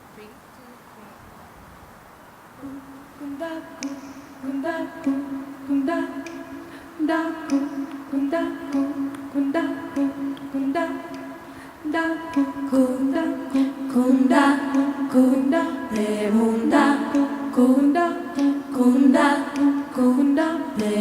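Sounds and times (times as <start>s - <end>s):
a cappella group humming: 2.6s - 21.0s.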